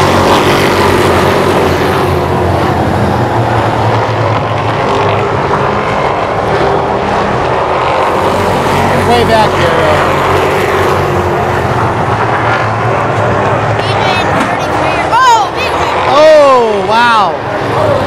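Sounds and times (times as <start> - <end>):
racing car engines droning: 0.0 - 18.0.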